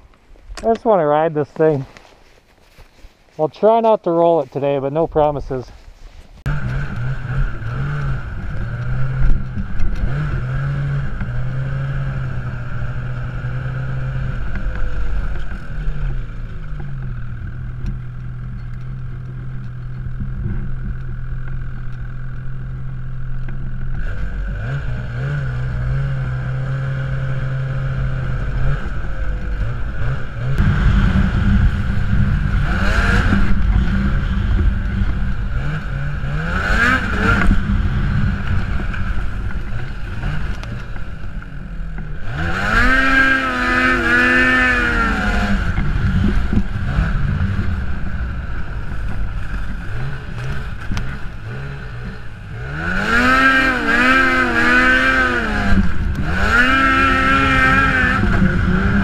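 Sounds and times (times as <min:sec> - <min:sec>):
snowmobile engine revving: 0:06.4 - 0:59.0.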